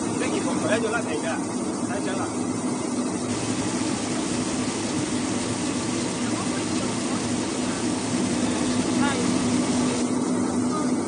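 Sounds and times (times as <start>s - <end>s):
motor hum: 0.0s - 11.0s
water jets spraying: 0.0s - 11.0s.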